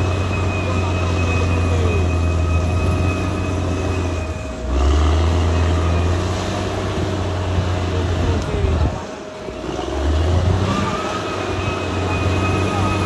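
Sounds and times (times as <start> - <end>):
bulldozer diesel drone: 0.0 - 13.0
constant whine: 0.0 - 13.0.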